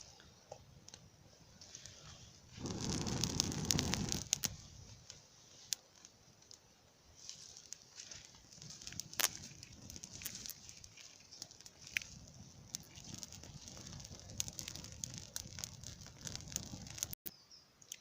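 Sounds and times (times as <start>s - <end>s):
grass fire crackling and popping: 0.1s - 17.2s.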